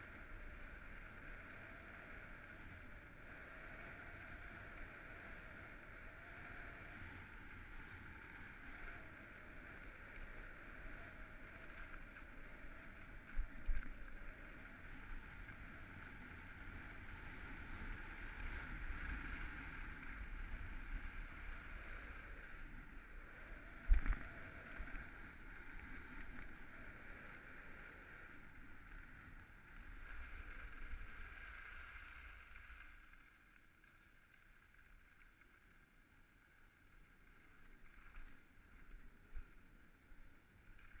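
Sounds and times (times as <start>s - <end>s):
skis sliding over snow: 0.0s - 41.0s.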